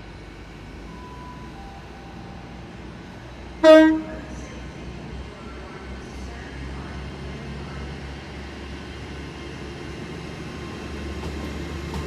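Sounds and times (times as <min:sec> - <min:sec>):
train diesel engines humming: 0:00.0 - 0:12.0.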